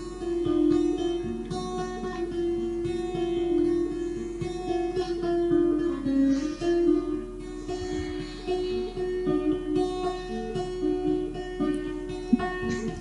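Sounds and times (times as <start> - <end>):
acoustic guitar played slowly: 0.0 - 13.0.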